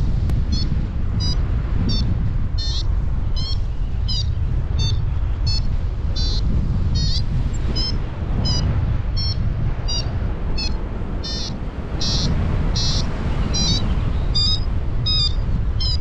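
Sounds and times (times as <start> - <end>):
wind buffeting microphone: 0.0 - 16.0
variometer short high beeps: 0.5 - 16.0.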